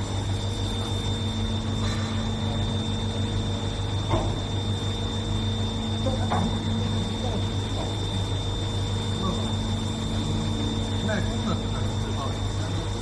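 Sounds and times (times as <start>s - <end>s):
high-pitched whine: 0.0s - 13.0s
welding machine electrical hum: 0.0s - 13.0s.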